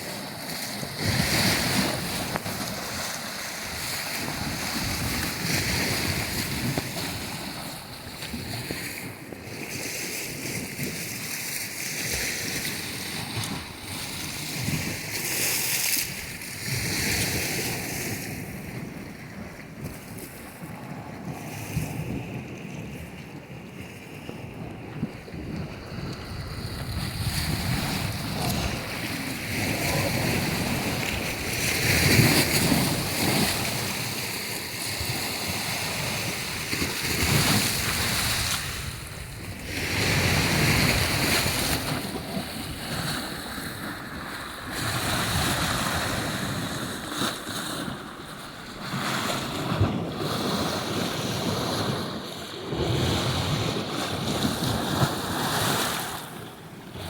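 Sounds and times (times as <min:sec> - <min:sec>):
surf breaking on shore: 0:00.0 - 0:22.5, 0:23.5 - 0:57.0
wind buffeting microphone: 0:00.0 - 0:57.0.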